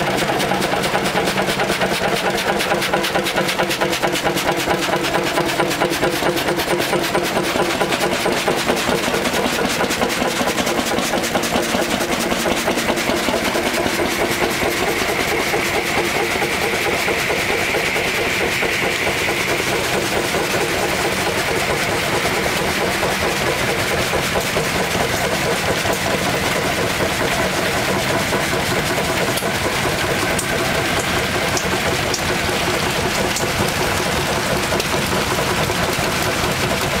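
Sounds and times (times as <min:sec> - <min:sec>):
stationary engines running: 0:00.0 - 0:37.0.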